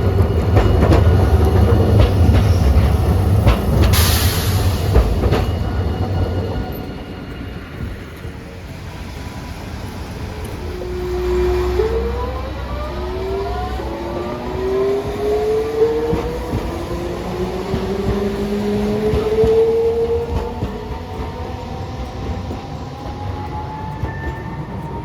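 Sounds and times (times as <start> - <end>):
tram motors whining: 0.0 - 25.0
tram running rumble: 0.0 - 25.0.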